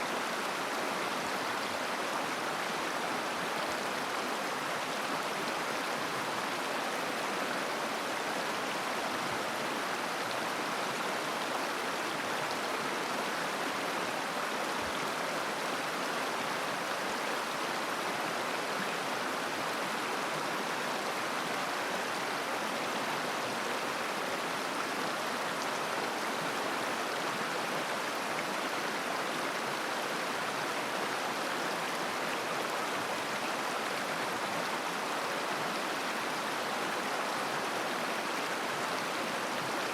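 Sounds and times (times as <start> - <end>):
river babbling: 0.0 - 39.9.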